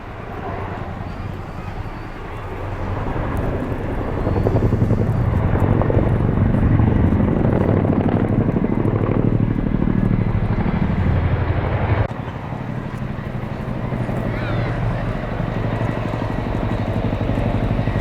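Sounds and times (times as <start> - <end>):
helicopter rotors chopping: 0.0 - 18.0.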